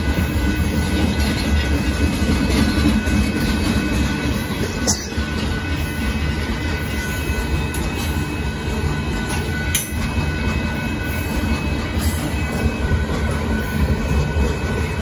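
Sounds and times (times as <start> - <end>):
steel wheels rumbling on rail: 0.0 - 15.0.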